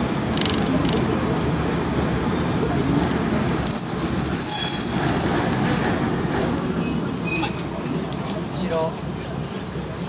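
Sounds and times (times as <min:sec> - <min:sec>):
train rumble: 0:00.0 - 0:10.0
train wheels squealing on rails: 0:00.2 - 0:08.3.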